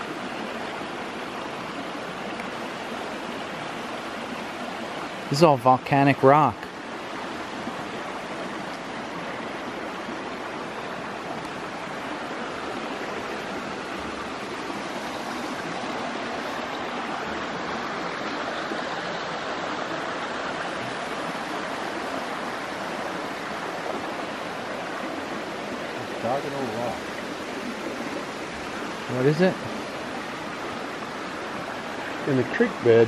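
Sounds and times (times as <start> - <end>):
creek water running over rocks: 0.0 - 33.0.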